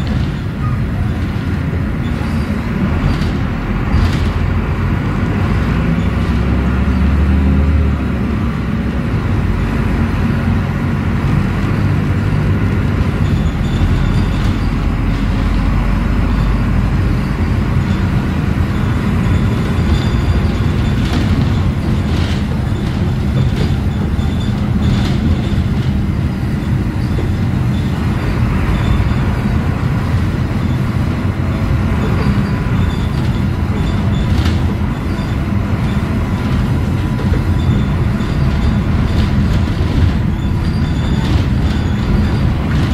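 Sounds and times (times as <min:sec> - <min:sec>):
high squeaks and rattles: 0:00.0 - 0:04.6, 0:12.9 - 0:42.9
bus engine running: 0:00.0 - 0:42.9
low rumble of road noise: 0:00.0 - 0:42.9.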